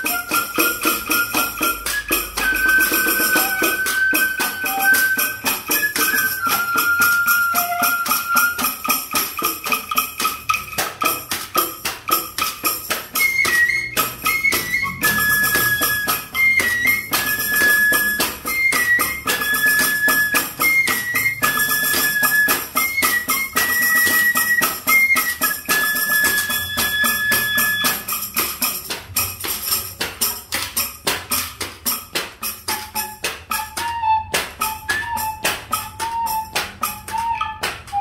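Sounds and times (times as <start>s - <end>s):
bamboo flute playing: 0.0s - 10.6s, 12.6s - 28.4s, 32.7s - 38.0s
jingling clattering percussion: 0.0s - 38.0s.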